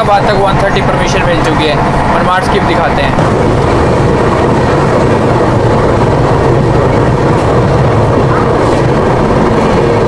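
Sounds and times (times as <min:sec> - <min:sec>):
train wheels on rail: 0:00.0 - 0:10.0
wind rush: 0:00.0 - 0:10.0.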